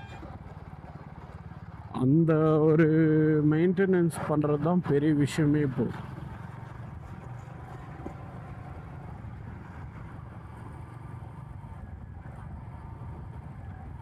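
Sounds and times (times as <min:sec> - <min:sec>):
motorcycle engine cruising: 0:00.0 - 0:03.7, 0:04.6 - 0:14.0.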